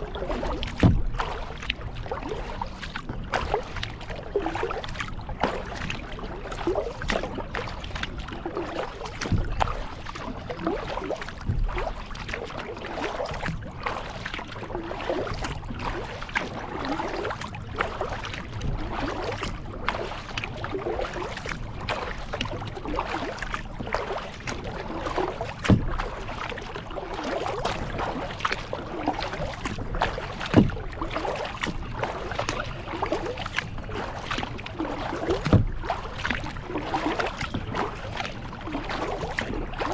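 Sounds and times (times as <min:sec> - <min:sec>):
paddle strokes splashing in water: 0:00.0 - 0:39.9
water swishing and dripping: 0:00.0 - 0:39.9.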